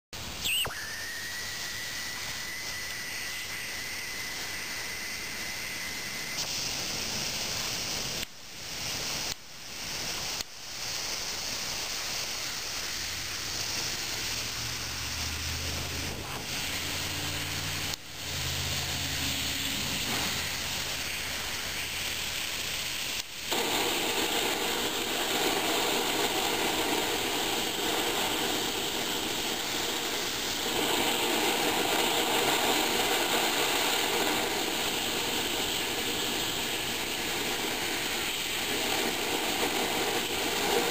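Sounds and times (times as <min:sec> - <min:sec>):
compressed air hissing through nozzle: 0:00.2 - 0:40.9.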